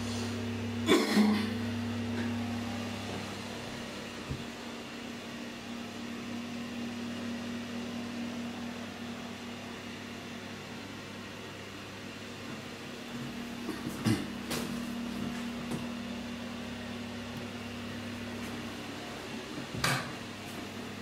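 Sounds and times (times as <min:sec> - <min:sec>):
extractor fan humming: 0:00.0 - 0:21.0.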